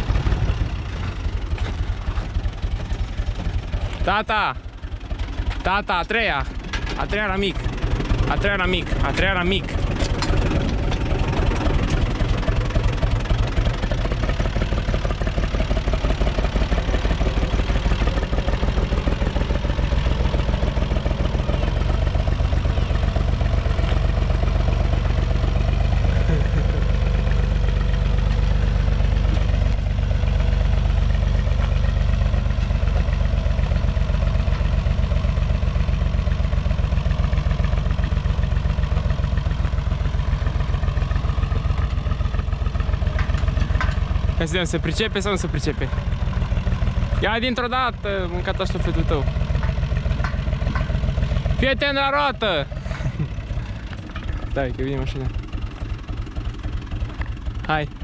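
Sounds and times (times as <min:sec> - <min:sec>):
tractor diesel engine rattling: 0:00.0 - 0:58.0.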